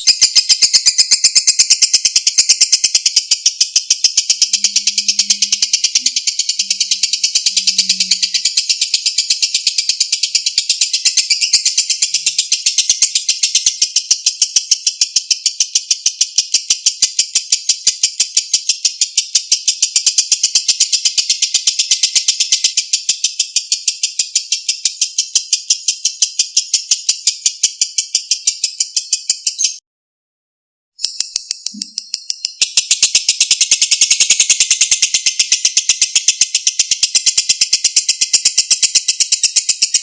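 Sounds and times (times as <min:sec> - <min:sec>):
bird chattering trill: 0:00.0 - 0:29.8, 0:31.0 - 0:40.0.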